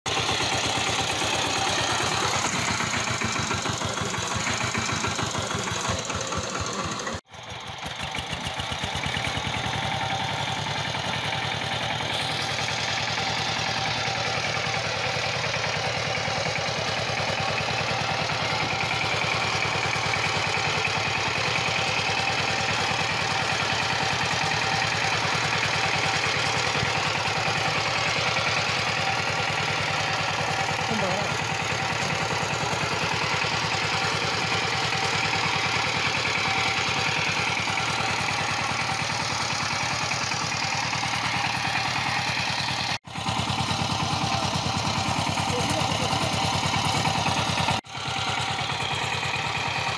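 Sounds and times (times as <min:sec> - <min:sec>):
power tiller engine running: 0:00.1 - 0:49.9.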